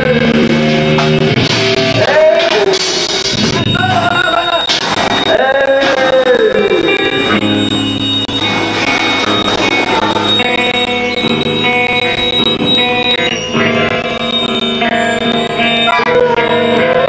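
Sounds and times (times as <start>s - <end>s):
amplified live band music: 0.0s - 17.0s.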